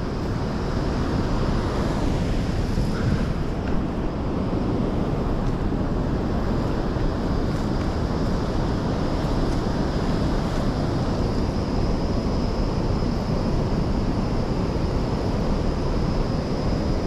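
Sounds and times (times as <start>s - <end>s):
faint high whine: 0.0s - 17.0s
steady rushing noise: 0.0s - 17.0s.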